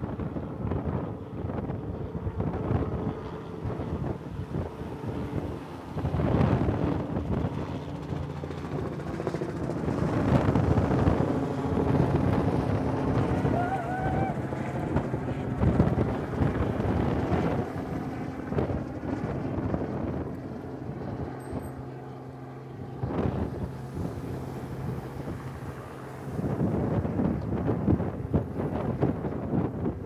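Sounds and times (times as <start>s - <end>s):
strong wind gusting on microphone: 0.0s - 21.8s, 22.7s - 30.0s
steady low hum: 0.0s - 30.0s.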